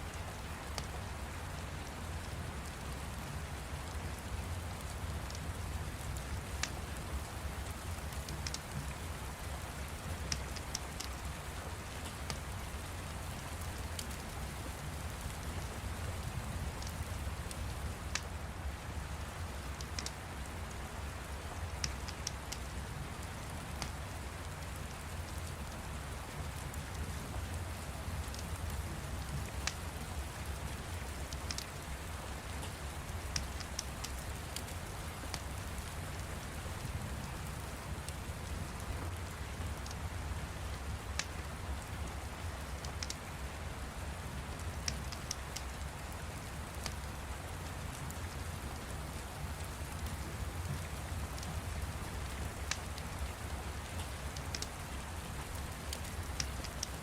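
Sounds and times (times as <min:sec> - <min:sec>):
steady rain: 0:00.0 - 0:57.0
fire crackling: 0:04.2 - 0:43.4, 0:44.0 - 0:57.0.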